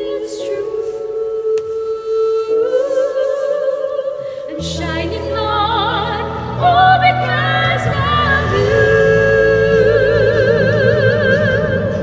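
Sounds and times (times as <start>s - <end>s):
two women singing: 0.0s - 12.0s.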